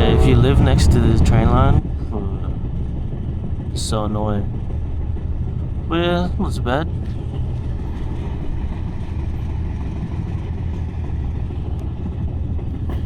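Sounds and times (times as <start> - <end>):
train low rumble from inside: 0.0 - 13.0.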